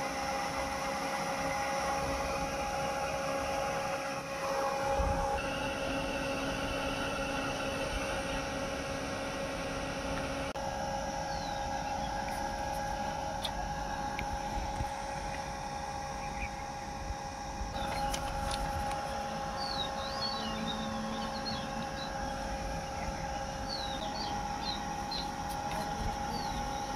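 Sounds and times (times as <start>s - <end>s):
fan and pump electric hum: 0.0s - 26.9s
birds chirping: 4.4s - 26.9s.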